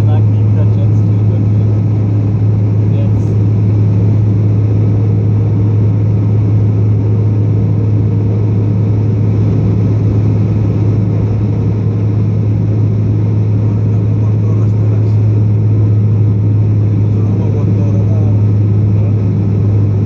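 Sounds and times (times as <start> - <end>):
turboprop engines humming: 0.0 - 20.0.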